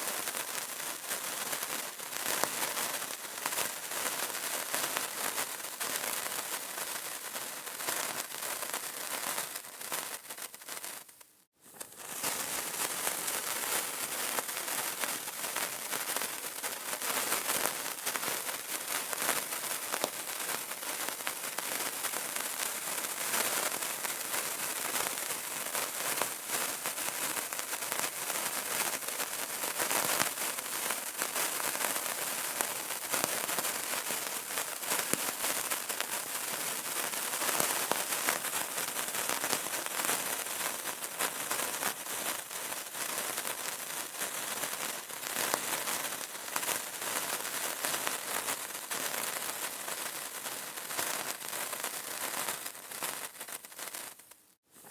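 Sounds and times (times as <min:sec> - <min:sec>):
candle crackling: 0:00.0 - 0:54.9.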